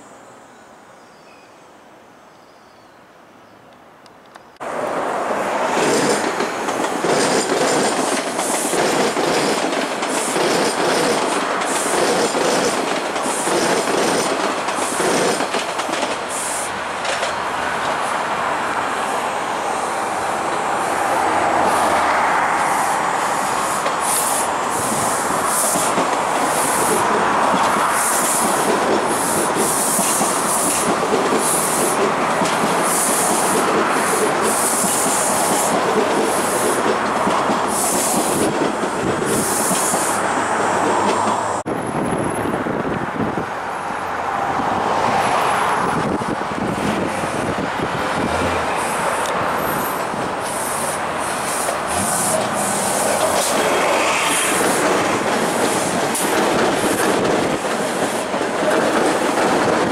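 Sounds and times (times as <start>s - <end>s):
subway train wheels clacking: 4.6s - 41.9s, 44.3s - 59.9s.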